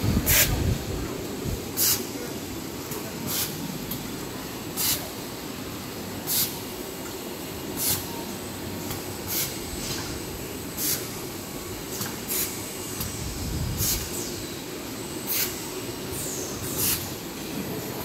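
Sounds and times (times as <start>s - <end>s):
production line machinery running: 0.0s - 18.0s.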